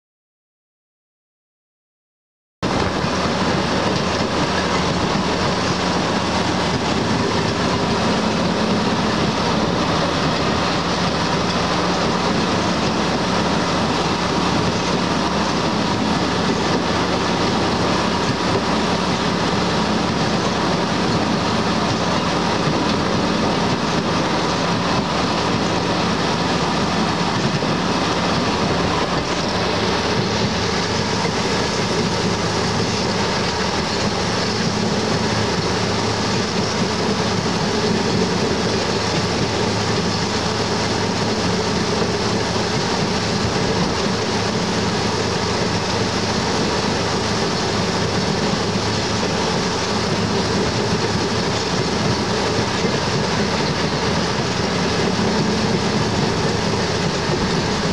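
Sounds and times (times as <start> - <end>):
train car rolling on track: 2.6 - 57.9.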